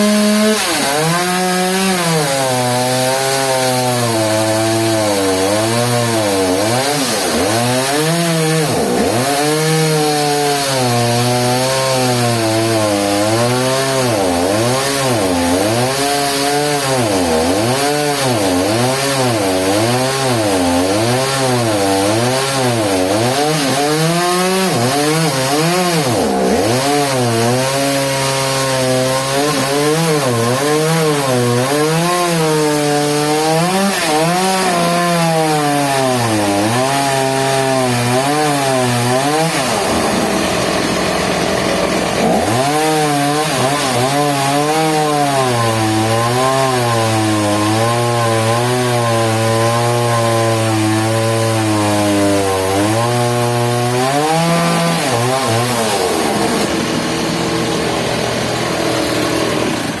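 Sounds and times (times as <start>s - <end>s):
saw blade cutting log: 0.0s - 60.0s.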